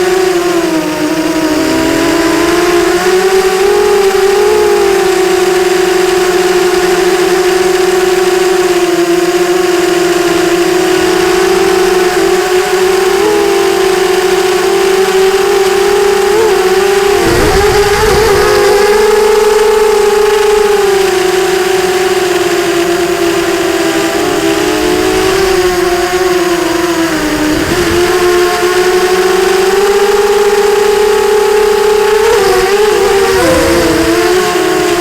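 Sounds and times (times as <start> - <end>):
quadcopter motors whining: 0.0 - 35.0.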